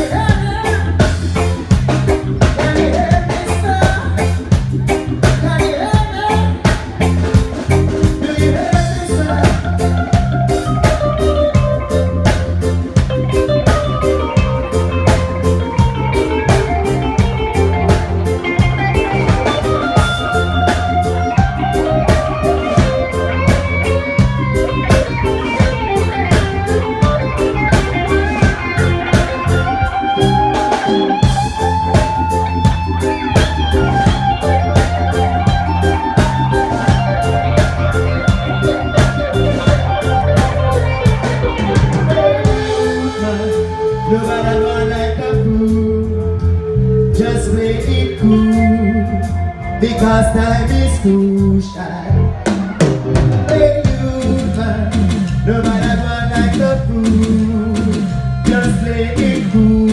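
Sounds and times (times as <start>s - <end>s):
bass and drum groove: 0.0s - 59.9s
electric guitar melody: 0.0s - 59.9s.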